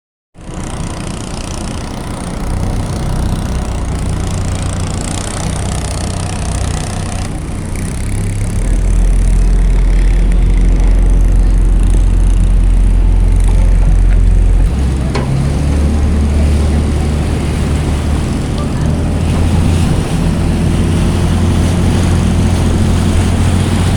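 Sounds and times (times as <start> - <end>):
boat engine droning: 0.4 - 23.9.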